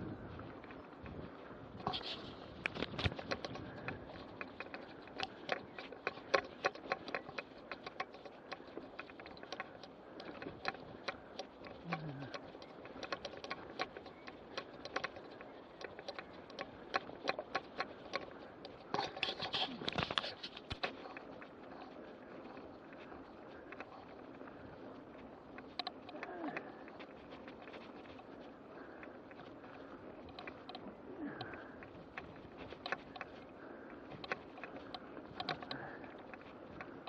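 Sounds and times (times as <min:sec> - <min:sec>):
stones and bike rattling: 0:00.0 - 0:37.0.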